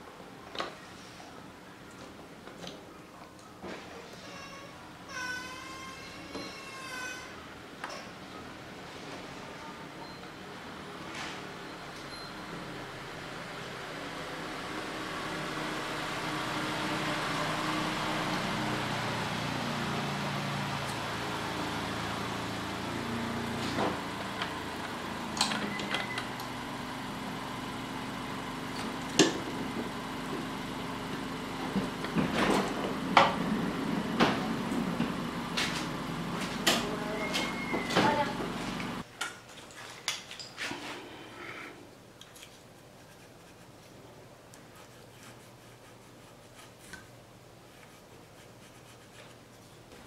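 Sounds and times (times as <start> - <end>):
low background hum: 0.0 - 50.0.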